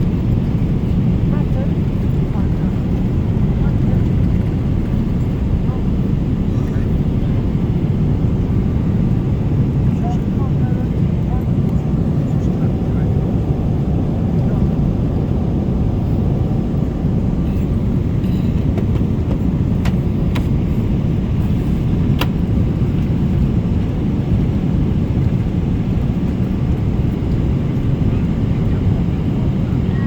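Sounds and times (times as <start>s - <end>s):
vehicle rumble: 0.0s - 30.0s.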